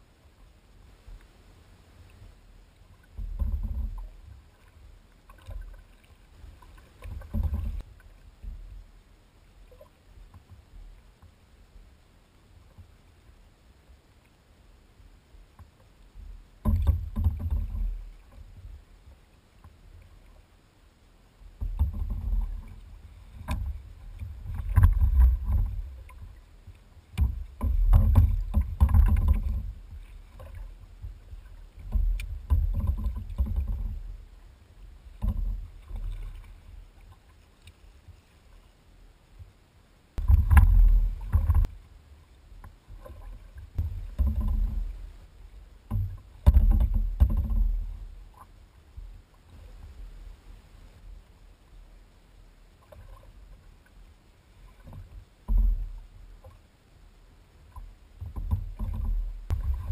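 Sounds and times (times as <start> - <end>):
muffled water sloshing against hull: 0.0 - 59.9.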